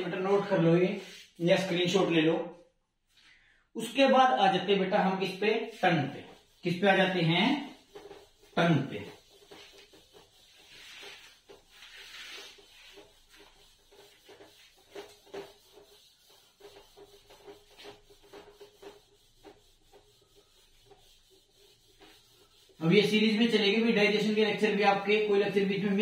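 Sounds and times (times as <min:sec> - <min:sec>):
duster rubbing on whiteboard: 0:00.3 - 0:01.8, 0:05.1 - 0:26.0.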